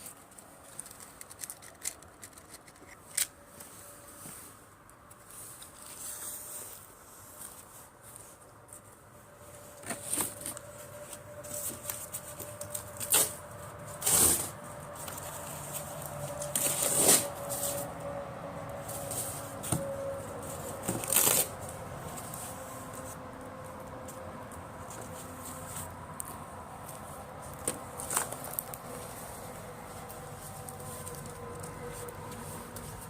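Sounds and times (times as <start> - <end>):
rustling and handling noises: 0.0 - 33.0.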